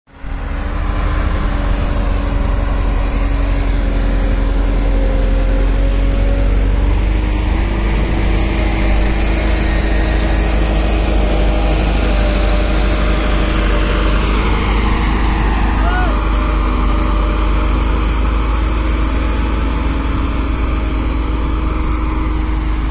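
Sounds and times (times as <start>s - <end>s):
tractor engine rumbling under load: 0.1s - 22.9s.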